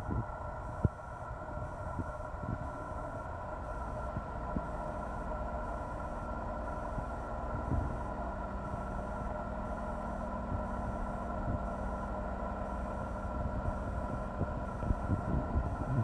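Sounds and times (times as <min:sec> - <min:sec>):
train equipment humming and whining: 0:00.0 - 0:16.0.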